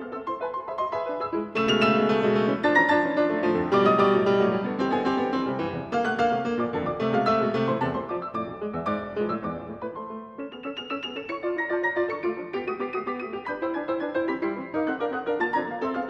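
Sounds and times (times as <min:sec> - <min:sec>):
grand piano playing: 0:00.0 - 0:16.0.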